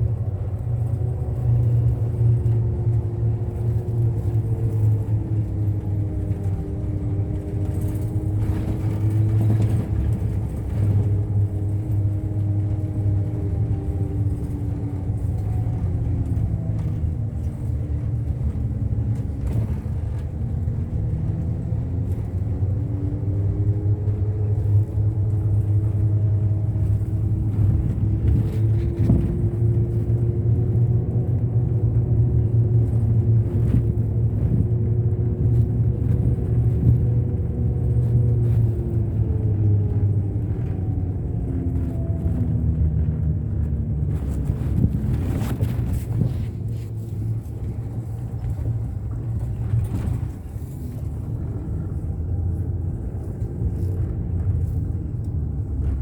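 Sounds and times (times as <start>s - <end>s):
bus engine rumble and whine: 0.0s - 56.0s.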